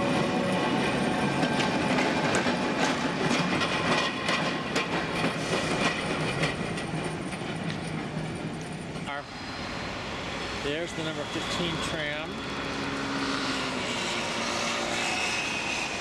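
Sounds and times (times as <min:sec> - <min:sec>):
tram wheels clattering over rails: 0:00.0 - 0:16.0.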